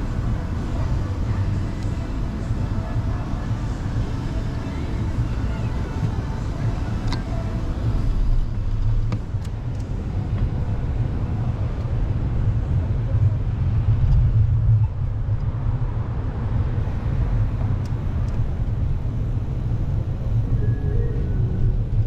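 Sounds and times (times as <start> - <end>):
city traffic noise: 0.0 - 22.0.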